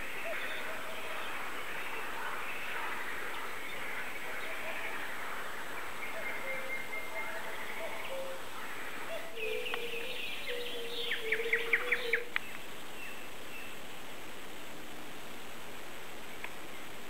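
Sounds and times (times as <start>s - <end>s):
soft bird calls: 0.0s - 13.8s
background hiss: 0.0s - 17.0s.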